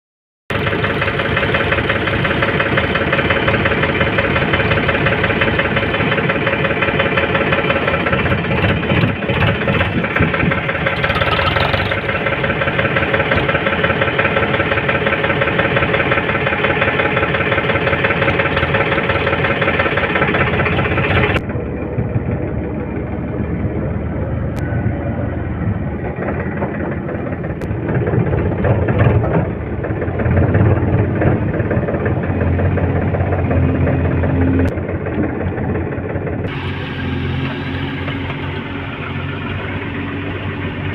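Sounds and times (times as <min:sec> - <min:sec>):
diesel engine of backhoe loader: 0:00.5 - 0:40.9.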